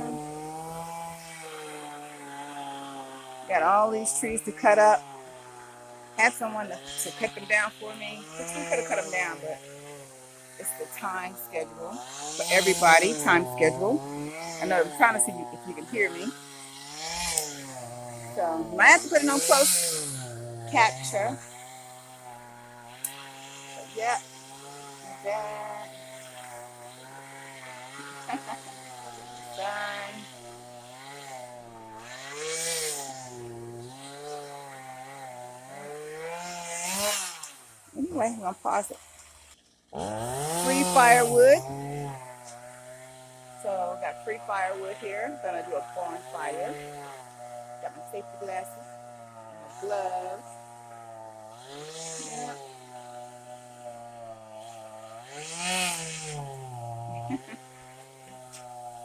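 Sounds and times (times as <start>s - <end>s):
two-stroke chainsaw revving: 0.0s - 59.0s.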